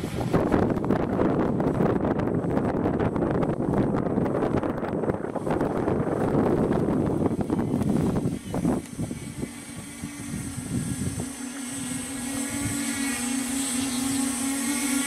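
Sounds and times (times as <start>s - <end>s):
drone propellers humming: 0.0s - 15.0s
wind noise on microphone: 0.0s - 15.0s.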